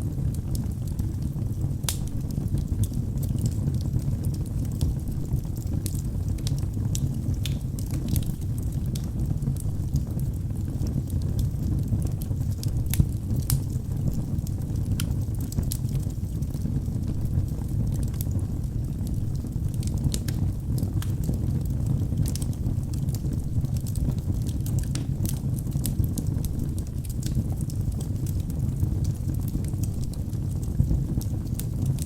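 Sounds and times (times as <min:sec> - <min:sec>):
burning wood crackling and popping: 0:00.0 - 0:32.0
fire flames rumbling: 0:00.0 - 0:32.0.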